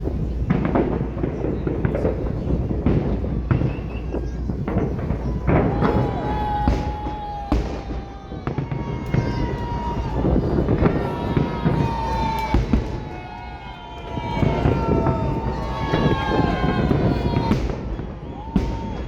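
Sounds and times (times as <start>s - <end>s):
continuous rumble: 0.0s - 18.8s
fireworks bangs: 0.0s - 19.0s.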